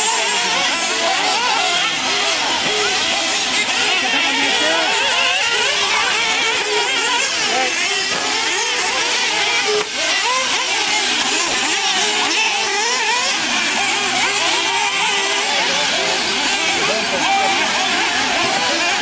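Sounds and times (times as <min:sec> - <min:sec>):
rc buggy engines screaming: 0:00.0 - 0:19.0.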